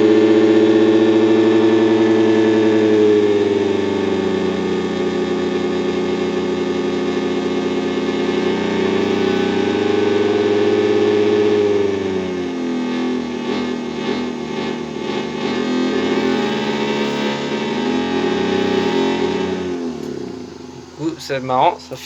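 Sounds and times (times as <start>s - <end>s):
distorted electronic hum: 0.0s - 22.0s.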